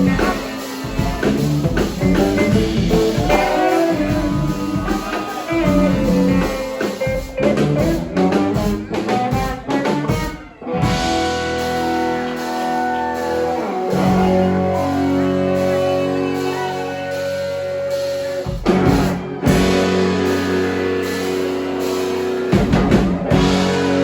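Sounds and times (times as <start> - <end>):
drums: 0.0 - 24.0
guitar: 0.0 - 24.0.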